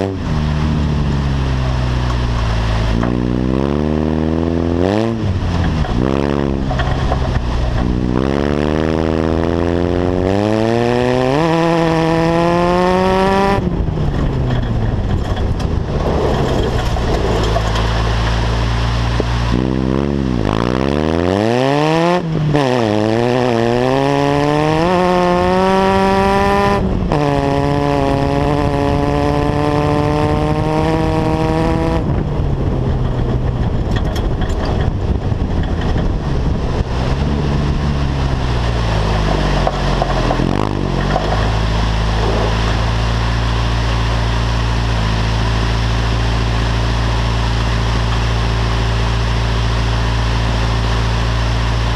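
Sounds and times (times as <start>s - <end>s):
buggy engine revving: 0.0s - 51.9s.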